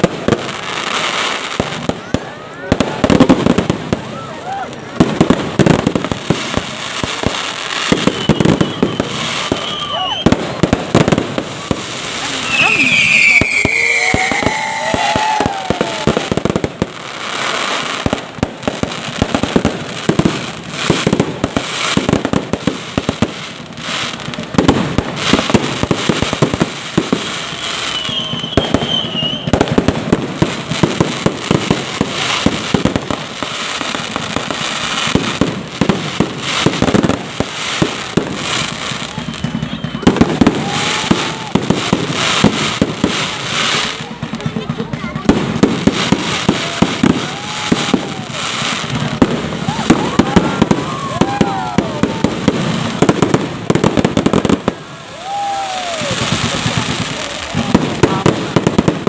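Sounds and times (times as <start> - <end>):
firework whistles: 0.0 - 18.2, 20.8 - 44.0, 45.5 - 59.0
fireworks bangs and crackling: 0.0 - 59.0.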